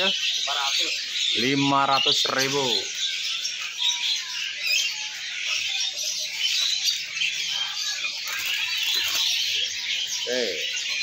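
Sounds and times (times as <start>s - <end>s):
caged songbirds chirping: 0.0s - 11.0s.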